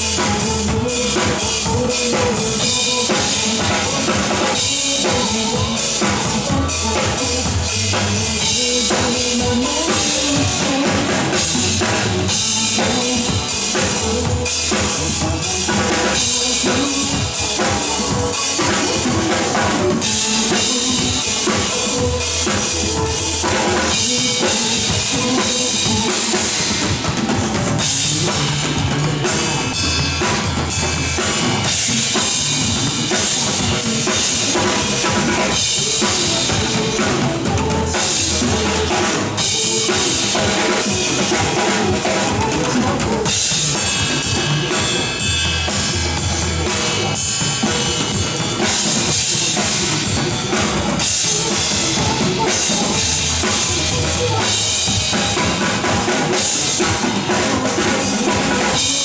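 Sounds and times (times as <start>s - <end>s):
drum kit playing: 0.0s - 59.0s
pop backing track: 0.0s - 59.0s.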